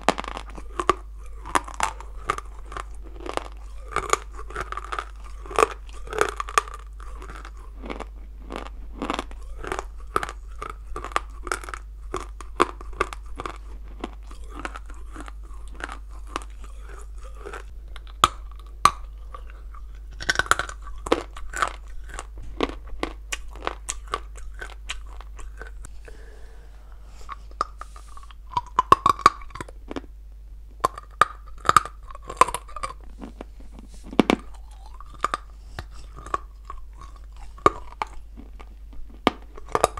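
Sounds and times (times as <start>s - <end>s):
clay crunching while chewed: 0.0s - 30.1s, 30.8s - 39.9s.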